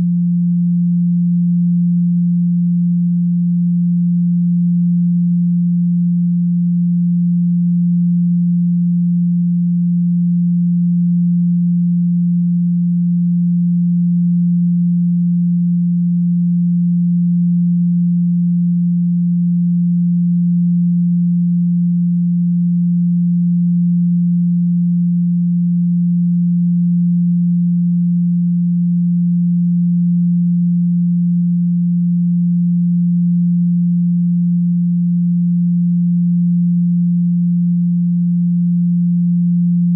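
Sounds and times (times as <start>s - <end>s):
low sine tone: 0.0s - 39.9s.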